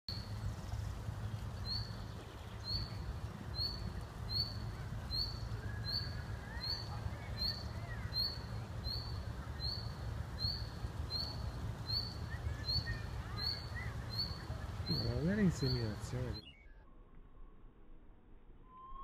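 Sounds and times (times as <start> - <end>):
bird chirping: 0.1 - 16.8
low steady rumble: 0.1 - 18.7.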